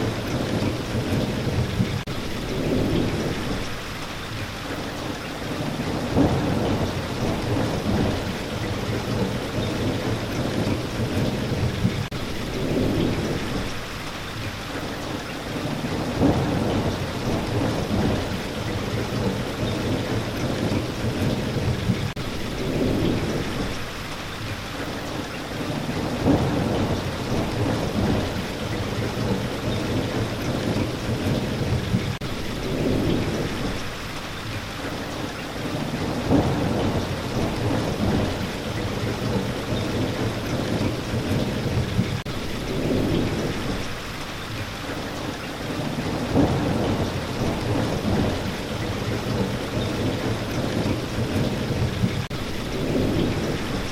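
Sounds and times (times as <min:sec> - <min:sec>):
thunder rumbling: 0:00.0 - 0:04.0, 0:04.6 - 0:14.2, 0:14.8 - 0:53.9
steady rain: 0:00.0 - 0:53.9.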